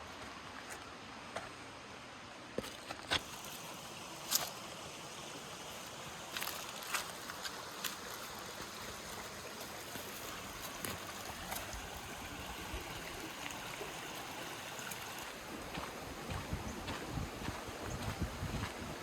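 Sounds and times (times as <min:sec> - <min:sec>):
creek water rushing: 0:03.2 - 0:19.0.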